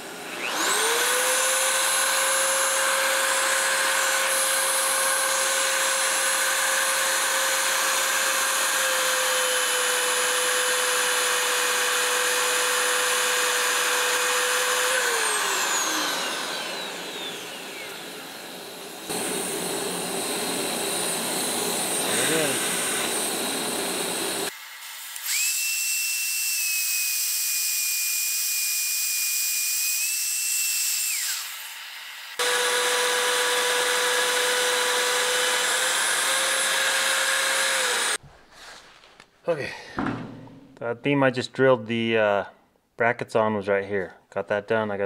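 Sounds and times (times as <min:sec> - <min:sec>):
magnetic drill motor whine: 0:00.2 - 0:38.2.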